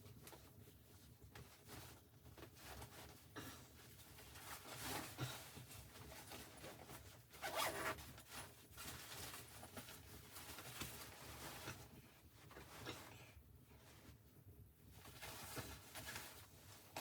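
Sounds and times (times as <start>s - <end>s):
rustling of clothing: 0.0s - 17.0s.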